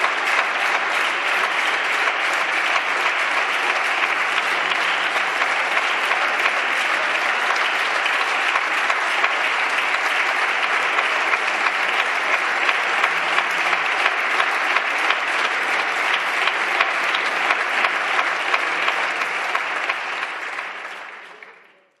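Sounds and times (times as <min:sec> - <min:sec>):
crowd applauding: 0:00.0 - 0:22.0.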